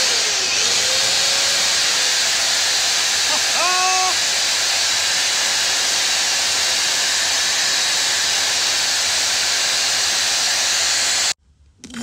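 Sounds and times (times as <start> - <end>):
belt sander whirring: 0.0 - 11.4.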